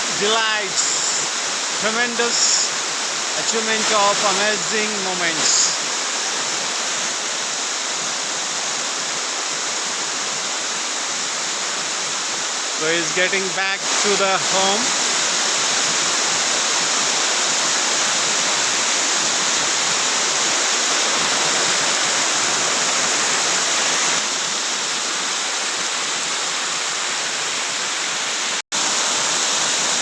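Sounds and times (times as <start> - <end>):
waterfall splashing: 0.0 - 30.0.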